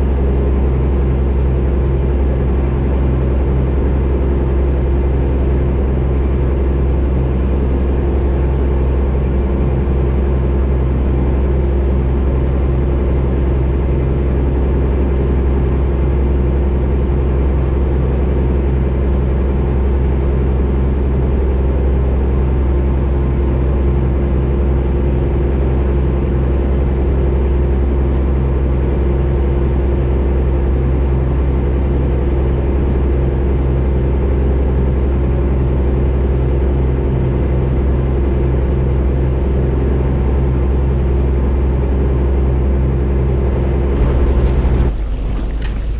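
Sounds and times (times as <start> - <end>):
boat engine droning: 0.0 - 45.9.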